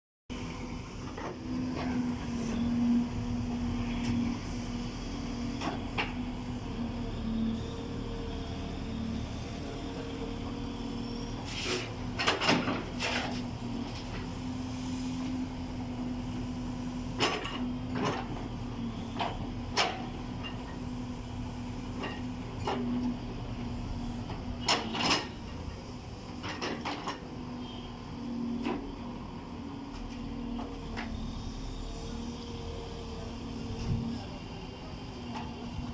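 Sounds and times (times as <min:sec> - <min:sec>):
excavator diesel engine running: 0:00.3 - 0:35.9.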